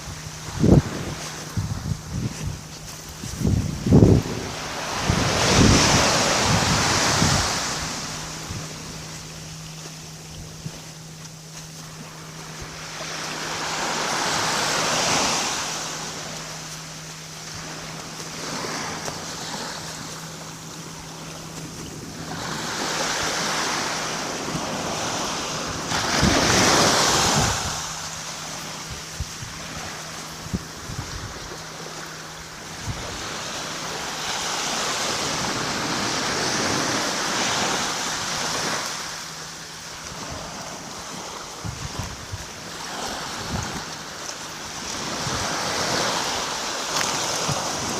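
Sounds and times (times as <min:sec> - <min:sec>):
small waves washing onto shore: 0:00.0 - 0:47.9.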